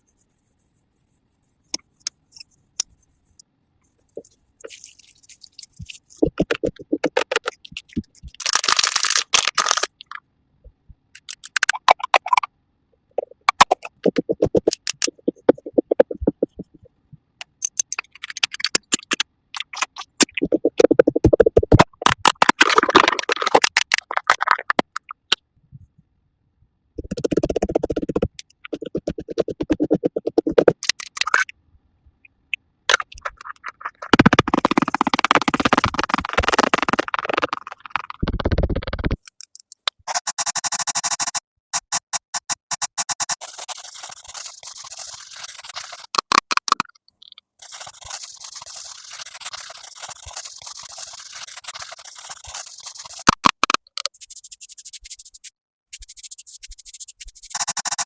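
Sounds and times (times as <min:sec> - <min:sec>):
rapid clicking and tapping: 0:04.0 - 0:10.1, 0:11.2 - 0:12.5, 0:13.2 - 0:25.4, 0:27.0 - 0:31.5, 0:32.9 - 0:54.4, 0:56.0 - 0:58.0.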